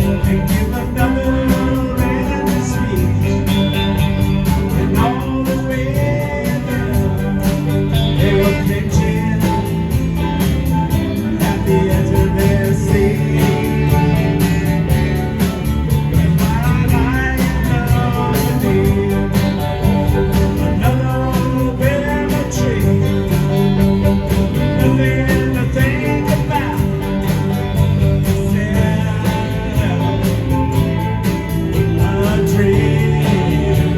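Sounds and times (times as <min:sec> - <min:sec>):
live band music: 0:00.0 - 0:33.9.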